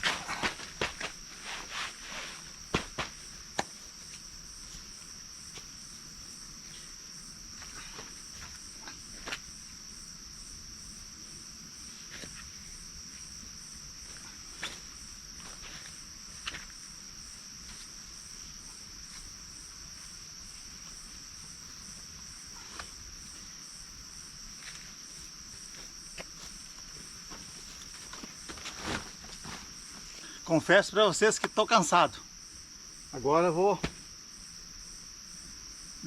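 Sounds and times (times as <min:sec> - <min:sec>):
insects trilling: 0:00.0 - 0:36.0
pulsing insect call: 0:00.0 - 0:36.0.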